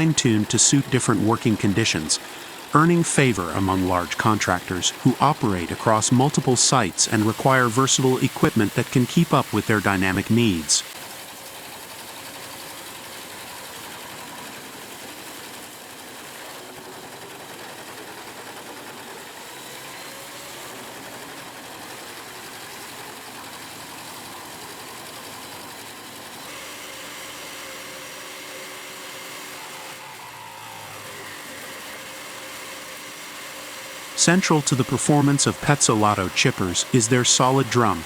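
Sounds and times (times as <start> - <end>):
wood chipper running: 0.0 - 38.0.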